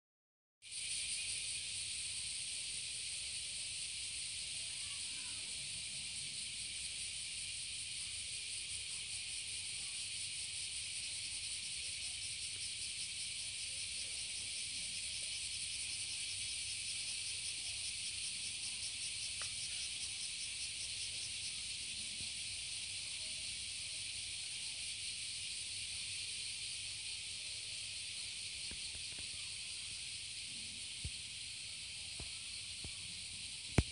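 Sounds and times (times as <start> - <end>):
cicadas droning: 0.6 - 33.9.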